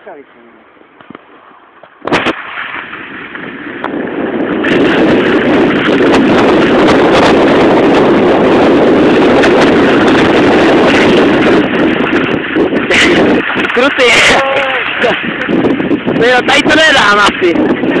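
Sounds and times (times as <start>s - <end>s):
wind on microphone: 0.8s - 18.0s.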